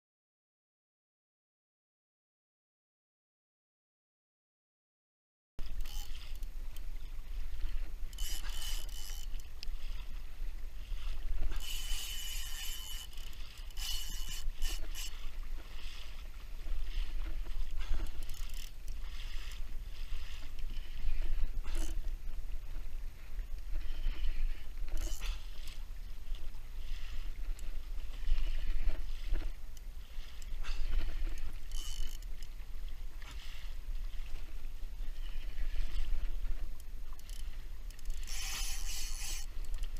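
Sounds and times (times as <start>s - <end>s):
water rushing along kayak hull: 5.6s - 39.9s.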